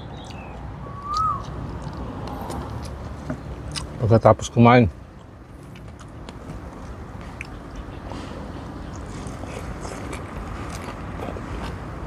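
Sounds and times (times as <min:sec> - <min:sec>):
person chewing: 0:00.2 - 0:03.0, 0:03.6 - 0:03.9, 0:05.2 - 0:11.9.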